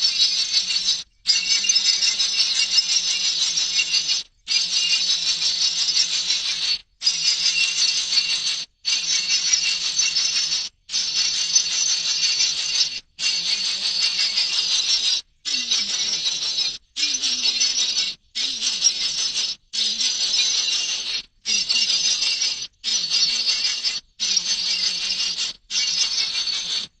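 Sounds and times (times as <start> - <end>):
chorus of chattering birds: 0.0 - 27.0.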